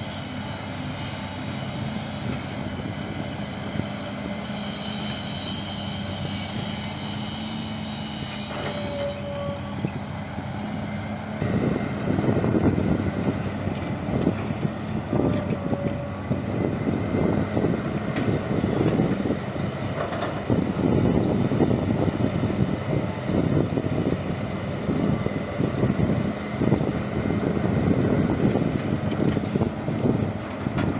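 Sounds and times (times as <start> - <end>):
diesel engine running: 0.0 - 30.9
high engine whine: 0.0 - 30.9.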